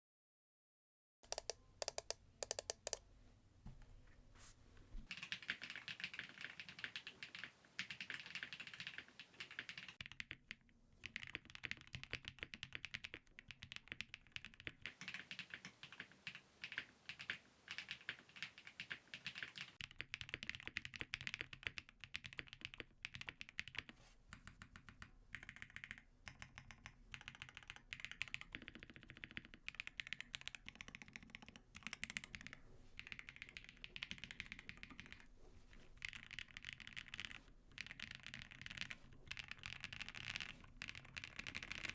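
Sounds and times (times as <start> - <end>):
mechanical keyboard typing: 1.3 - 3.0, 5.1 - 23.9, 24.5 - 35.3, 36.0 - 41.9.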